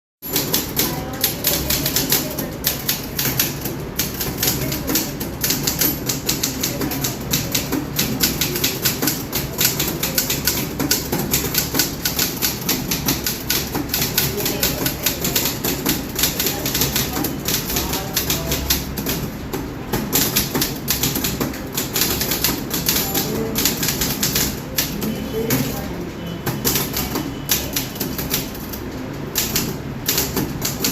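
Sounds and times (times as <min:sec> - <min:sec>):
fast typing on keyboard: 0:00.2 - 0:30.9.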